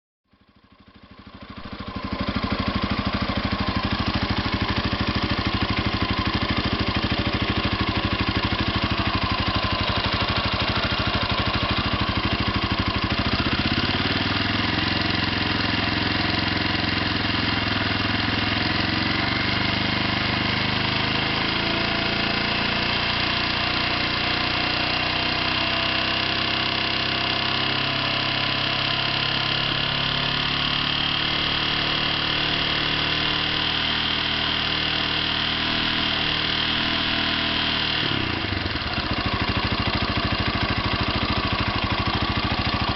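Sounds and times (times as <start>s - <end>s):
engine knock: 0.3s - 42.9s
motorcycle engine idling: 0.3s - 42.9s.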